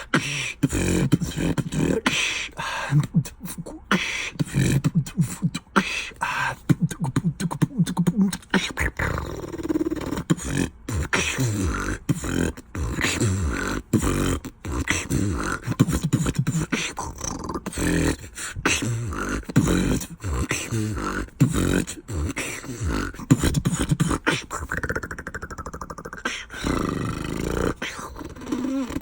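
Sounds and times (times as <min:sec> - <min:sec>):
beatboxing: 0:00.0 - 0:29.0.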